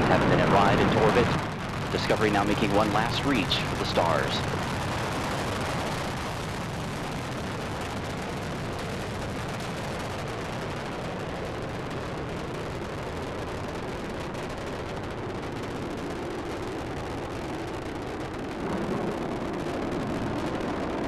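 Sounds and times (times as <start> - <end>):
rocket engines roaring: 0.0 - 21.0.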